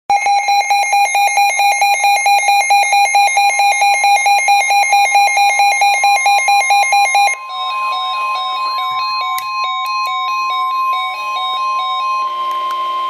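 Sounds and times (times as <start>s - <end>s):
rapid pulsing alert beeps: 0.1s - 12.4s.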